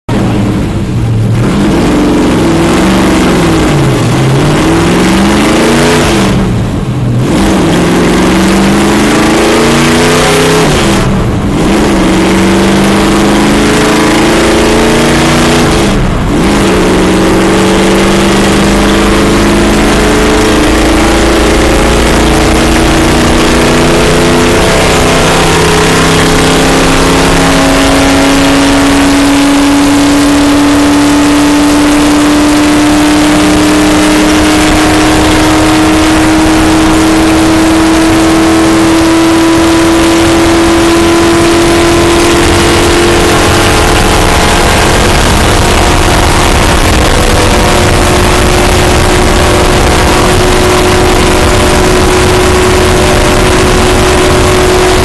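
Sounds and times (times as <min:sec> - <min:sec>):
race car engine accelerating: 0:00.1 - 0:55.0.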